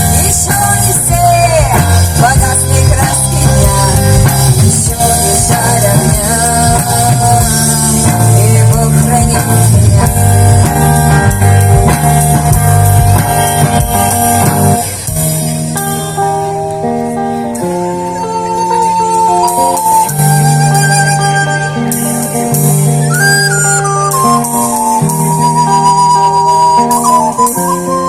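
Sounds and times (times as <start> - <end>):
melodic lead line bending: 0.0 - 28.0
rock band music: 0.0 - 28.0.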